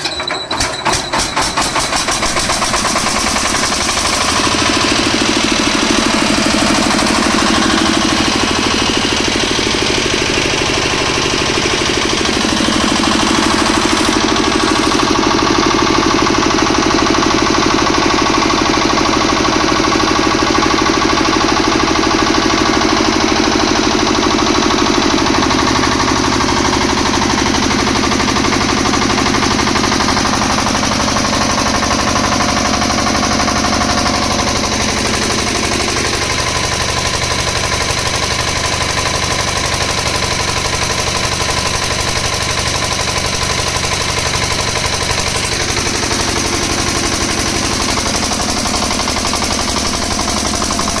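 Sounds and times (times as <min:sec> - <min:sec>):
generator engine pulsing: 0:00.0 - 0:51.0
generator hum: 0:00.0 - 0:51.0.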